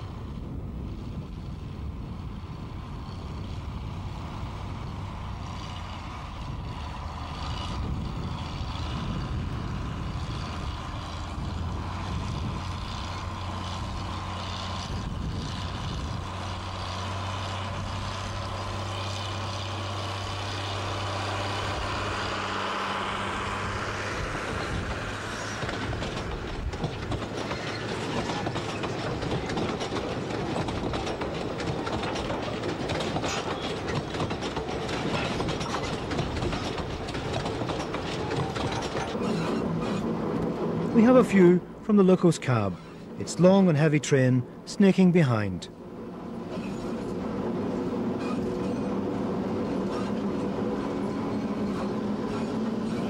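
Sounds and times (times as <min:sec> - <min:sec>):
wagon wheels rolling on track: 0:00.0 - 0:43.8, 0:45.8 - 0:53.0
diesel locomotive engine drone: 0:00.0 - 0:53.0.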